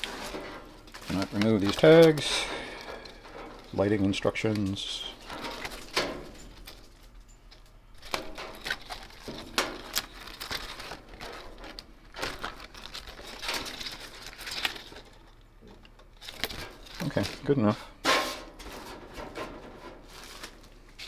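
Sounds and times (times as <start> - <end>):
paper rustling and crinkling: 0.0 - 7.1, 8.0 - 15.4, 16.2 - 21.0.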